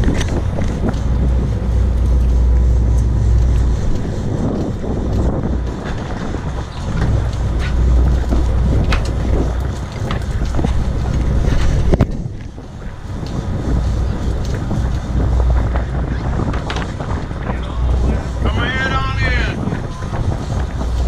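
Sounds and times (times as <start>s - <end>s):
boat engine rumble: 0.0s - 21.0s
wind buffeting microphone: 0.0s - 21.0s.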